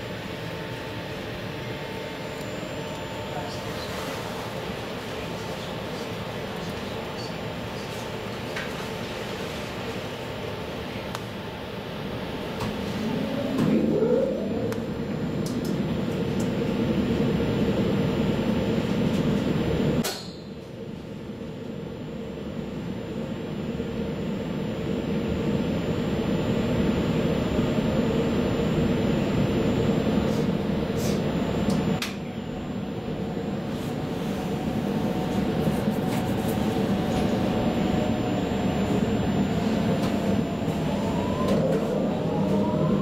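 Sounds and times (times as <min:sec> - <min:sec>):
train interior rumble and hum: 0:00.0 - 0:43.0.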